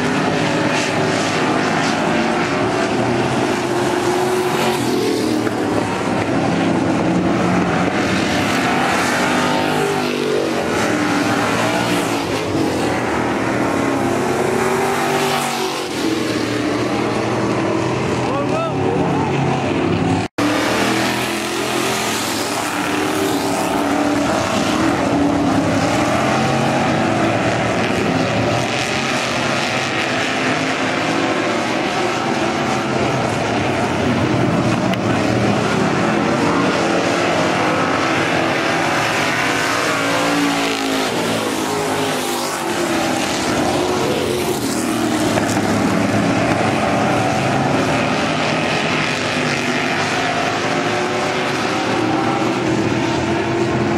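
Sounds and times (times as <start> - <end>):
race car engines droning: 0.0 - 53.9.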